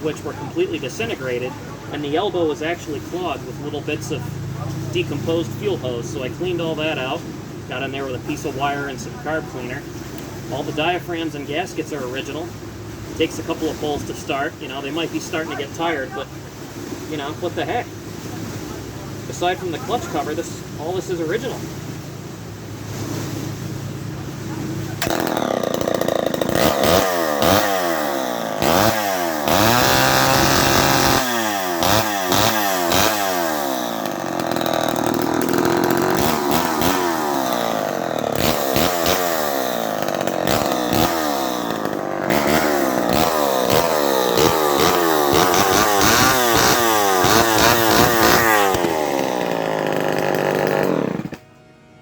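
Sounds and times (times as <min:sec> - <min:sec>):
chainsaw engine revving: 0:00.0 - 0:21.8, 0:22.8 - 0:51.5.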